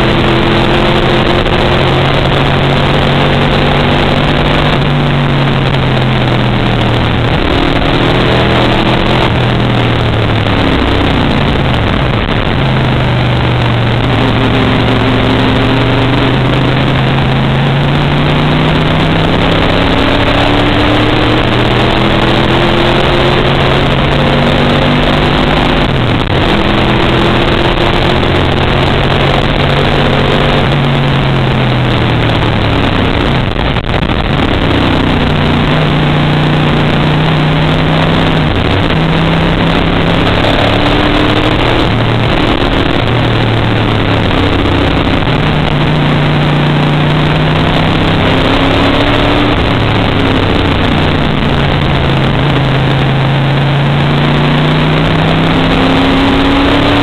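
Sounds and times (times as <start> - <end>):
race car engine from cockpit: 0.0 - 57.0.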